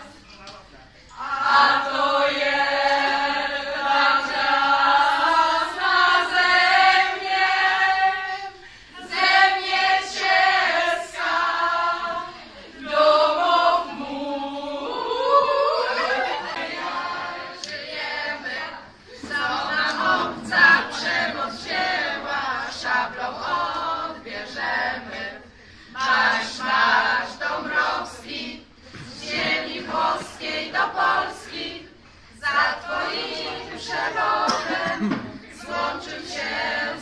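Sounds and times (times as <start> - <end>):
group singing a cappella: 1.1 - 37.0.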